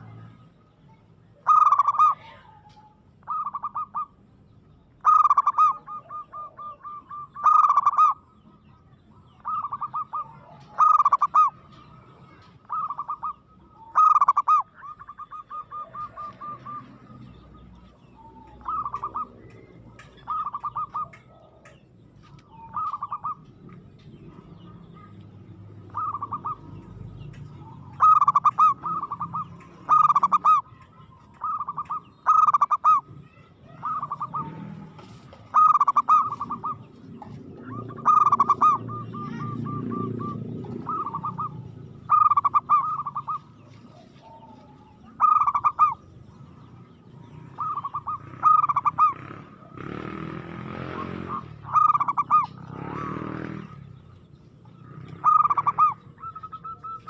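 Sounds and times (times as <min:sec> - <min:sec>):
dove cooing with trills: 0:01.4 - 0:04.2, 0:04.9 - 0:57.0.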